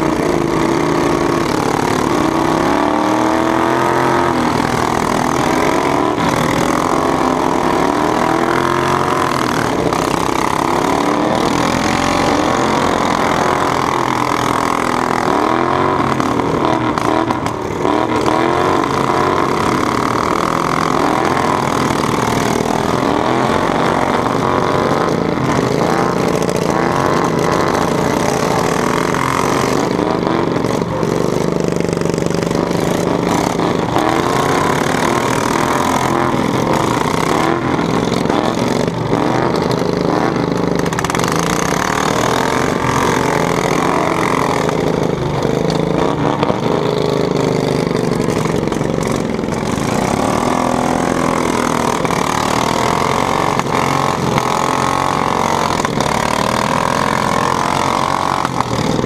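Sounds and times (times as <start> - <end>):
lawn mower engines revving: 0.0 - 59.0.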